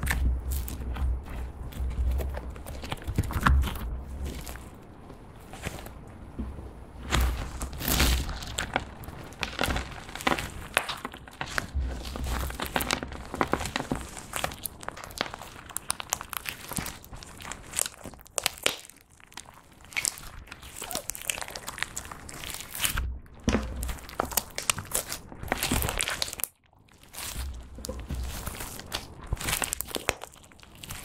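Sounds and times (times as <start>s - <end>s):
slime crackling and popping: 0.0s - 4.8s, 7.0s - 31.0s.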